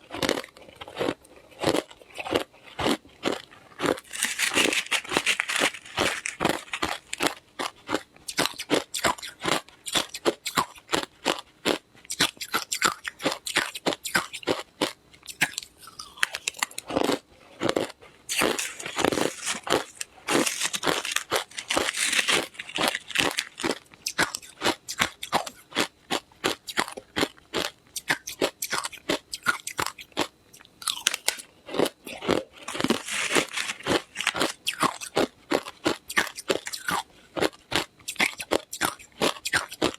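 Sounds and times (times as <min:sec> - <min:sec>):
ice crunched and chewed: 0:00.0 - 0:39.9.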